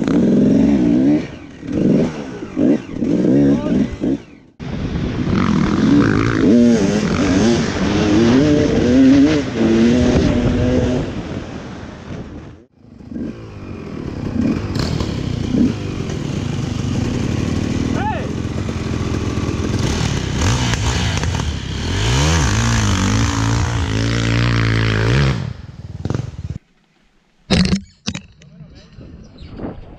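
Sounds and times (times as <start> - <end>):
dirt bike engine revving: 0.0 - 11.2, 12.8 - 26.6.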